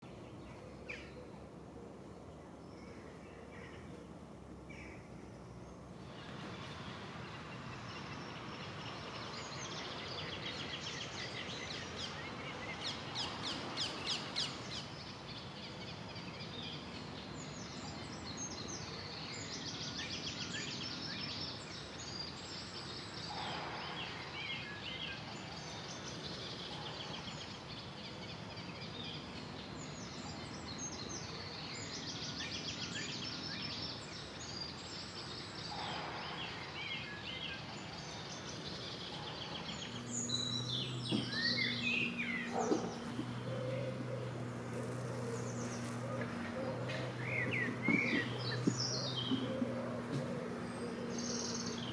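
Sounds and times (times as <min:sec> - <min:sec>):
songbirds singing: 0:00.0 - 0:51.9
background hiss: 0:00.1 - 0:51.9.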